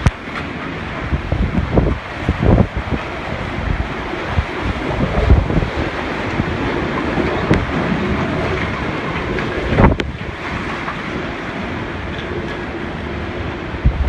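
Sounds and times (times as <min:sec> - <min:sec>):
strong wind gusting: 0:00.0 - 0:14.0.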